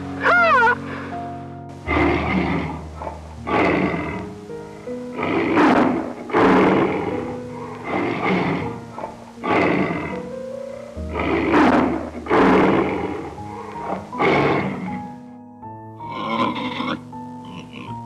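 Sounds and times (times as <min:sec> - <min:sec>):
background music sustained notes: 0:00.0 - 0:18.0
animal roaring: 0:01.8 - 0:15.1, 0:16.1 - 0:18.0.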